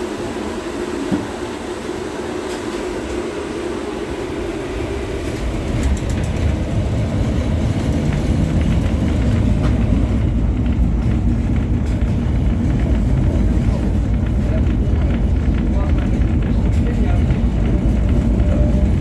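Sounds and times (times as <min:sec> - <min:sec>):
tram rumble: 0:00.0 - 0:19.0.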